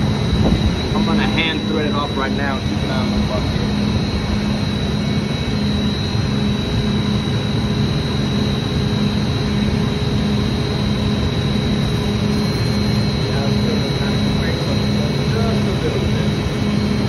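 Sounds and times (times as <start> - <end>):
machinery drone: 0.0 - 17.0
pulsing low hum: 0.0 - 17.0
thin high whine: 0.0 - 17.0.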